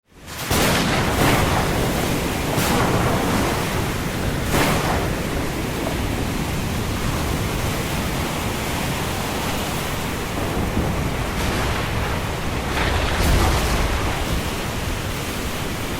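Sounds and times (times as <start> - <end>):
storm wind rushing: 0.2 - 15.9.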